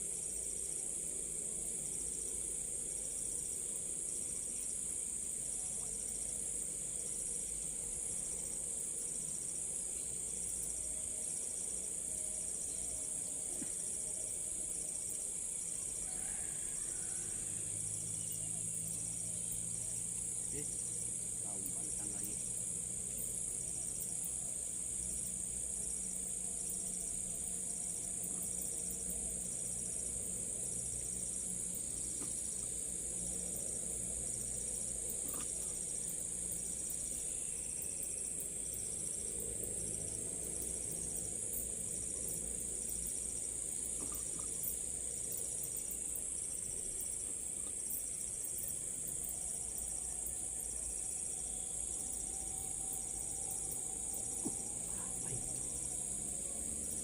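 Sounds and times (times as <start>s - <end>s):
crickets chirping: 0.0s - 57.0s
pulsing insect chirp: 0.0s - 57.0s.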